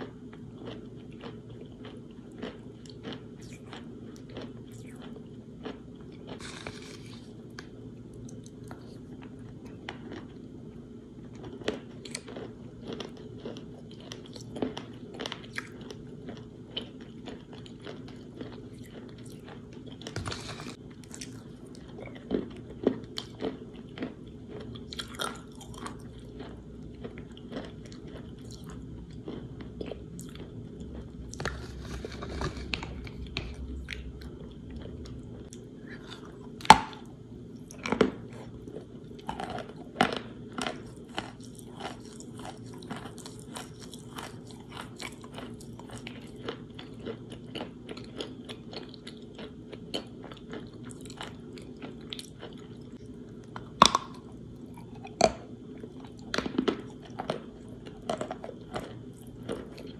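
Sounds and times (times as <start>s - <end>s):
chewing and crunching chalk: 0.0s - 10.5s, 11.3s - 59.9s.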